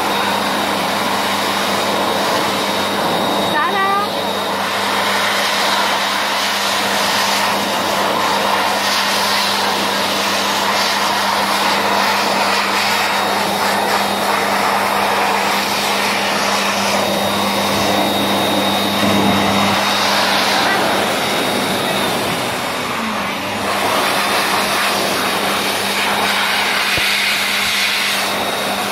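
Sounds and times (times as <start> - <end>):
electric hand dryer running: 0.0 - 28.9.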